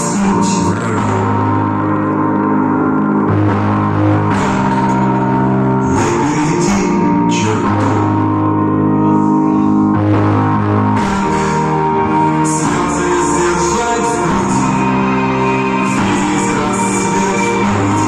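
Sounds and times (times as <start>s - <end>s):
song with guitar and beat: 0.0s - 18.0s.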